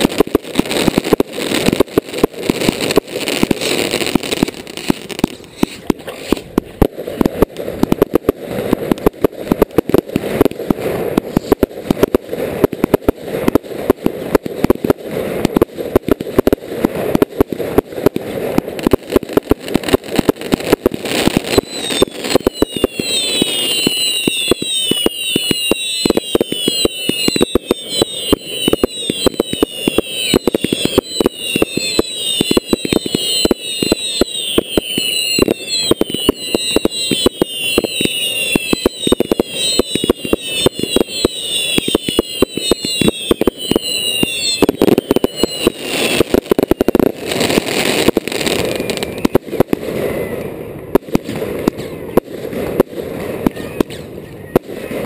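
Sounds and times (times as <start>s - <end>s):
fireworks bangs and cracks: 0.0s - 55.0s
whistling fireworks: 0.0s - 55.0s.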